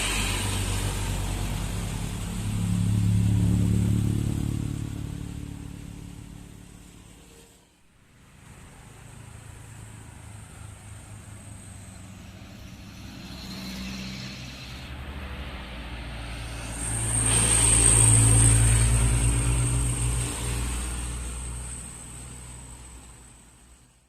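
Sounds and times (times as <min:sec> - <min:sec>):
vehicle approaching: 0:00.0 - 0:24.0
vehicle engine passing: 0:00.0 - 0:24.0.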